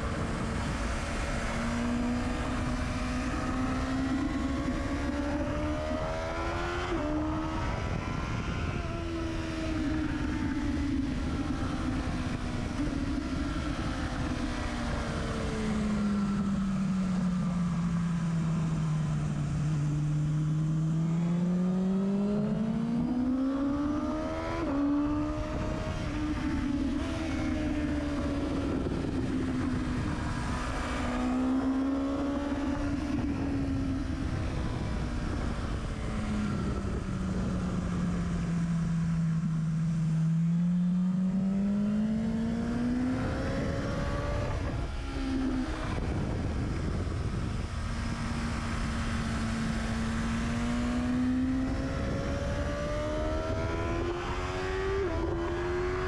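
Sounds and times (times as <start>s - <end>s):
motorcycle engine and exhaust: 0.0s - 56.0s
wind noise: 0.0s - 56.0s.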